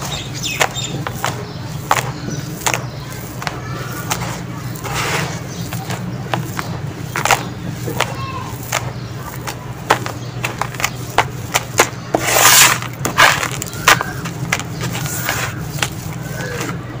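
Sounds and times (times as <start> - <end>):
hand sweeping through gravel: 0.0 - 16.5
sand and gravel crunching: 0.0 - 16.9.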